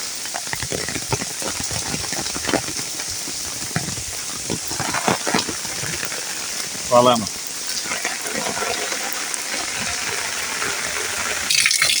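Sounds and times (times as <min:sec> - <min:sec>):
heavy rain hiss: 0:00.0 - 0:12.0
raindrops splashing: 0:00.0 - 0:12.0.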